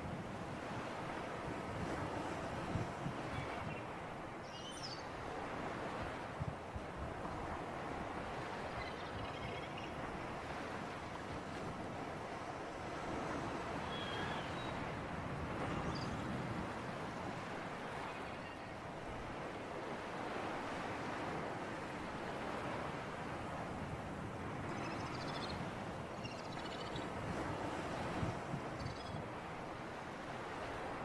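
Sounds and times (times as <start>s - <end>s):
sea surf: 0.0s - 31.0s
wind: 0.0s - 31.0s.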